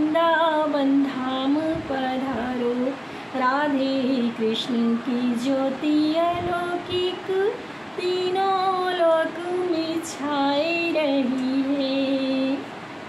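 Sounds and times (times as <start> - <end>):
woman singing unaccompanied: 0.0 - 12.7.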